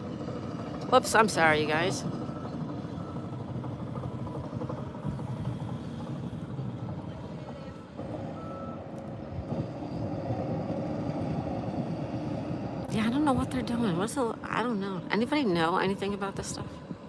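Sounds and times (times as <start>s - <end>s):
reversing alarm beeping: 0.0s - 14.1s
heavy machinery running: 0.0s - 17.0s.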